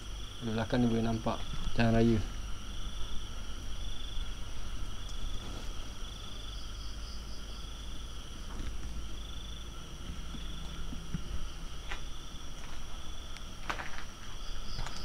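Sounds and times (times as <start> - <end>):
high-pitched insect drone: 0.0 - 15.0
insects trilling: 0.0 - 15.0.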